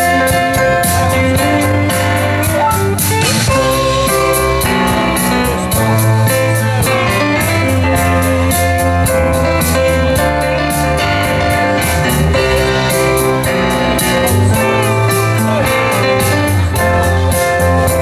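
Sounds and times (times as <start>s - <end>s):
cymbals keeping a beat: 0.0s - 18.0s
live rock band playing: 0.0s - 18.0s.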